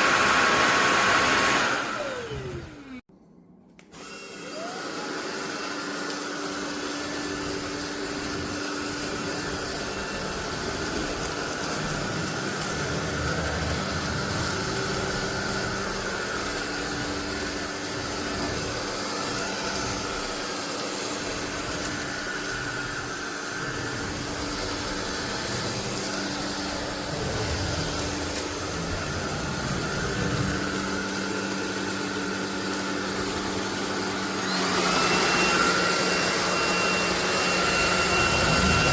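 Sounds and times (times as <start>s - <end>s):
stick vacuum motor whine: 0.0s - 3.1s, 3.8s - 38.9s.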